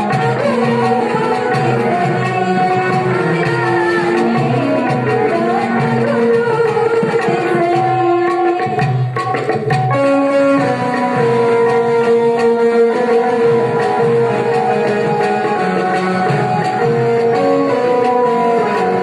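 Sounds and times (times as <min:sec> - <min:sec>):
keyboard and harmonium melody: 0:00.0 - 0:19.0
tabla rhythm: 0:00.0 - 0:19.0.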